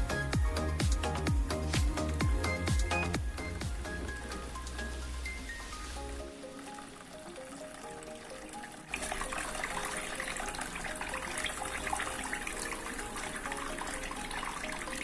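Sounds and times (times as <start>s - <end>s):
background music: 0.0s - 15.0s
low pump hum: 0.0s - 15.0s
water splashing and trickling: 0.0s - 15.0s.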